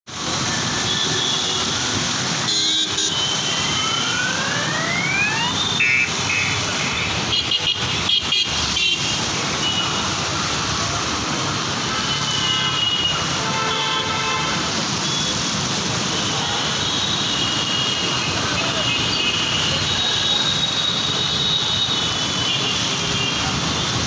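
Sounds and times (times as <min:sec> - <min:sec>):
road traffic noise: 0:00.1 - 0:24.0.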